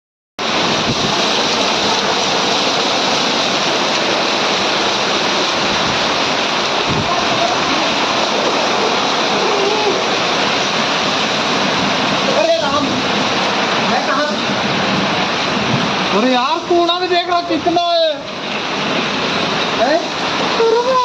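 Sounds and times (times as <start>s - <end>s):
hail and rain falling hard: 0.4s - 21.0s.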